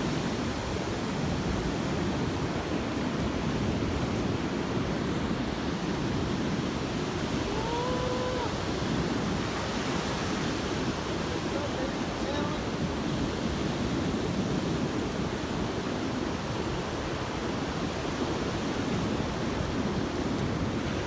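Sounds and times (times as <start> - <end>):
ocean waves washing onto beach: 0.0 - 21.0.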